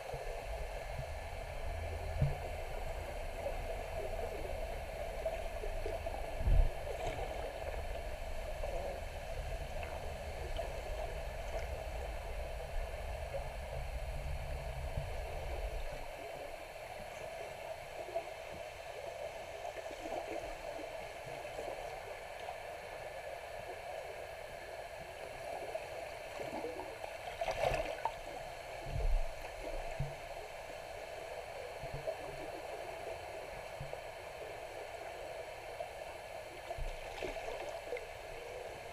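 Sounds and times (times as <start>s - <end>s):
underwater water wash: 0.0s - 38.9s.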